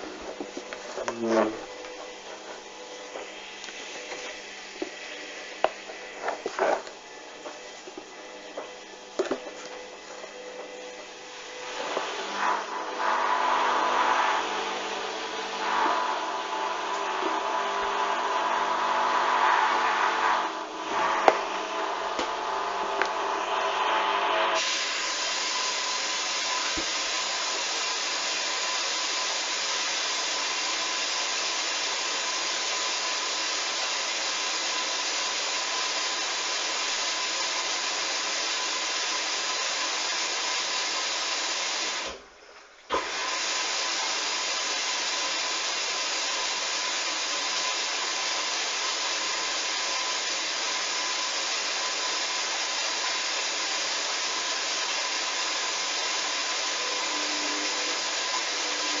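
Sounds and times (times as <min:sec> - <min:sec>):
water rushing into washing machine: 0:01.6 - 0:42.2, 0:42.9 - 0:59.0.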